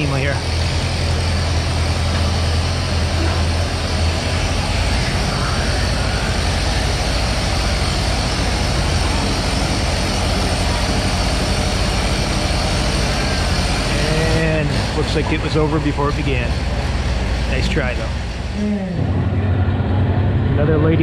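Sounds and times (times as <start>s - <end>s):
tractor engine under load: 0.0s - 18.5s.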